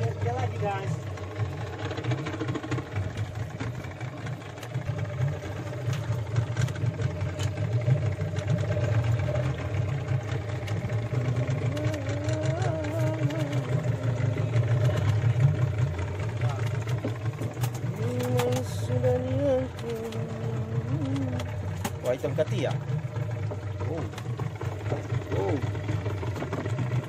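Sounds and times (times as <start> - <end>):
boat engine idling: 0.0 - 27.0.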